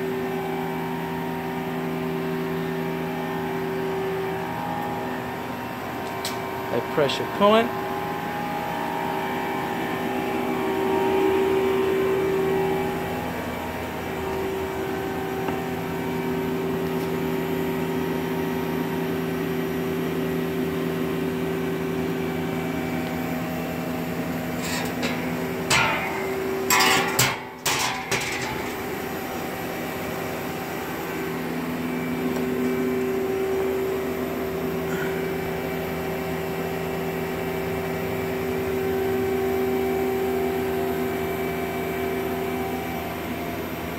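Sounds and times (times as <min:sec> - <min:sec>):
machine hum with held tones: 0:00.0 - 0:43.9.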